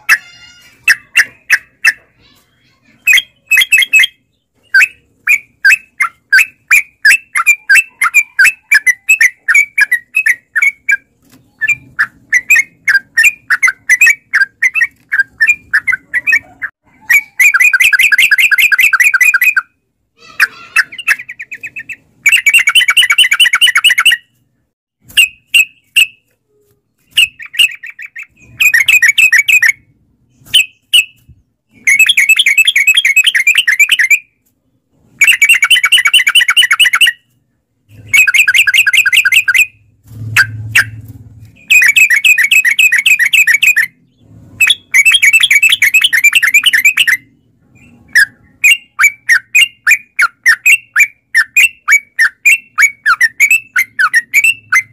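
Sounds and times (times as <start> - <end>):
bird singing fast chattering notes: 0.0 - 19.8, 20.4 - 24.3, 27.0 - 34.3, 35.2 - 37.3, 37.9 - 54.9.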